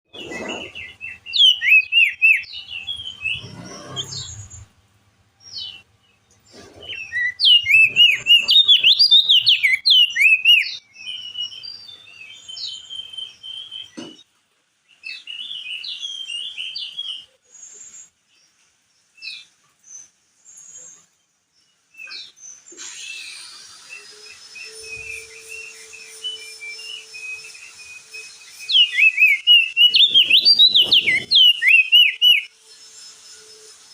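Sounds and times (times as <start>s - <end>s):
bird warbling song: 0.1s - 4.8s, 5.4s - 14.2s, 14.9s - 33.9s.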